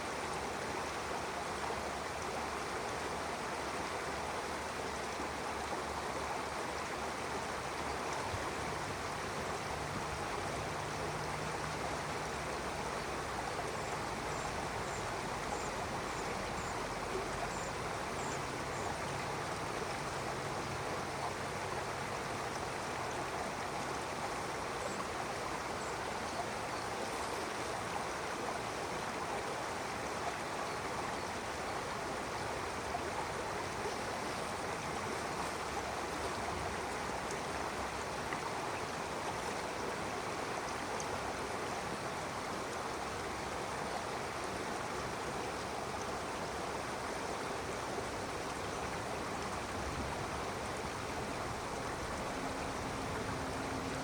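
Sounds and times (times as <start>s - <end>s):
stream water flowing and splashing: 0.0s - 54.0s.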